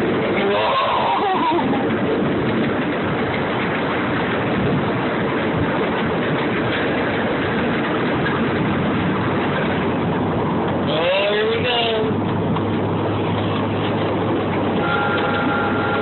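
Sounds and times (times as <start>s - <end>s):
miniature train engine rumbling: 0.0s - 16.0s.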